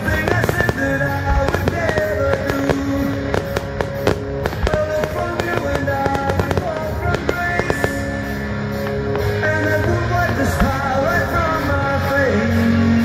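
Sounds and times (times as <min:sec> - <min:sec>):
fireworks bursting: 0:00.0 - 0:13.0
loud music of sustained notes: 0:00.0 - 0:13.0.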